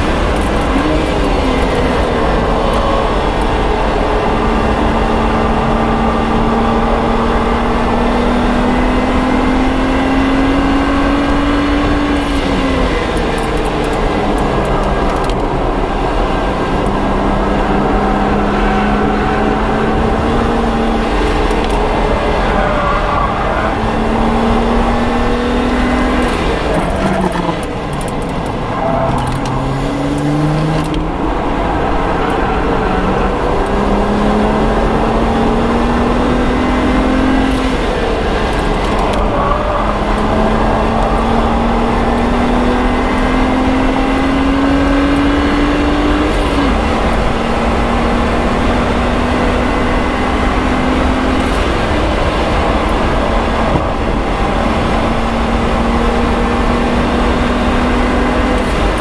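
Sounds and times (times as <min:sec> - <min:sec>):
car engine at full throttle: 0:00.0 - 0:59.0
wind and road noise: 0:00.0 - 0:59.0.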